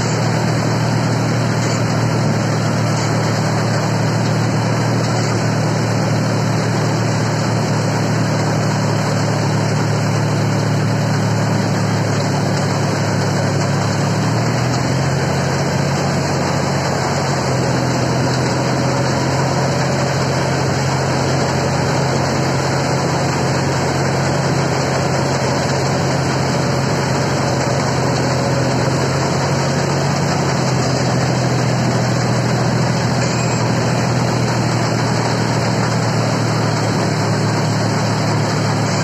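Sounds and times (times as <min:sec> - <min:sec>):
combine harvester engine drone: 0:00.0 - 0:39.0.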